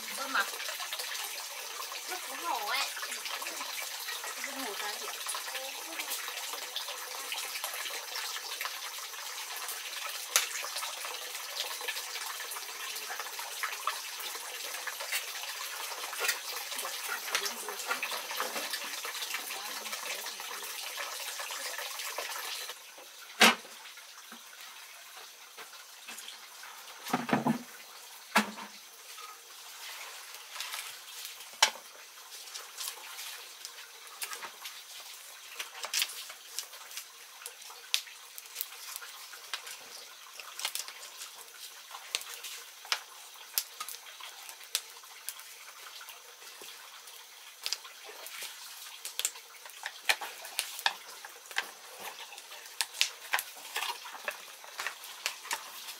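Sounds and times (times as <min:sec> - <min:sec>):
wood fire crackling and popping: 0:00.0 - 0:22.8, 0:30.3 - 0:55.9.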